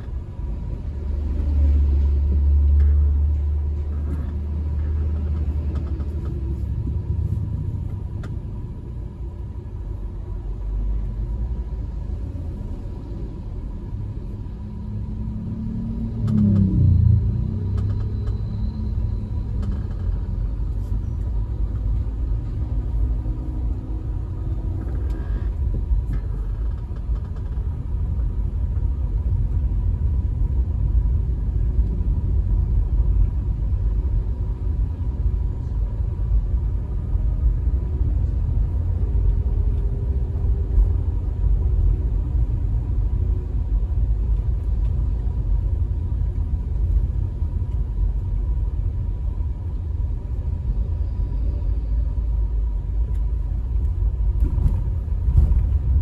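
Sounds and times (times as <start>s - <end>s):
car tyre and engine rumble: 0.0s - 56.0s
passing traffic: 0.0s - 56.0s.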